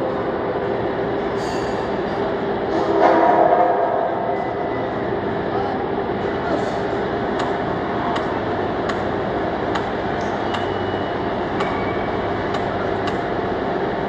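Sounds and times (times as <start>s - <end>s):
loud workshop machinery din: 0.0s - 14.0s.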